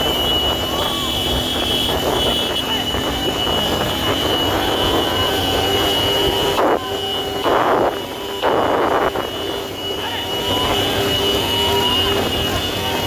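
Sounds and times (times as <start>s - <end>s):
motorcycles at speed: 0.0s - 13.0s
steady high tone: 0.0s - 13.0s.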